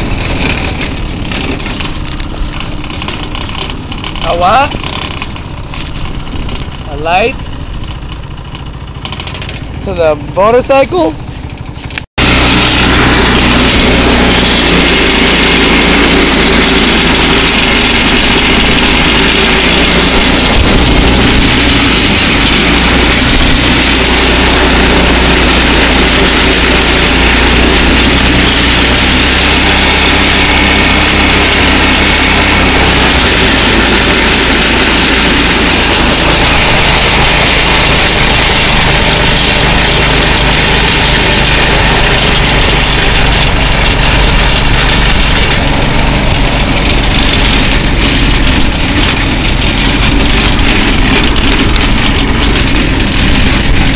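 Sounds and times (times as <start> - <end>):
go-kart engine running: 0.0 - 53.9
road and wind noise: 0.0 - 53.9.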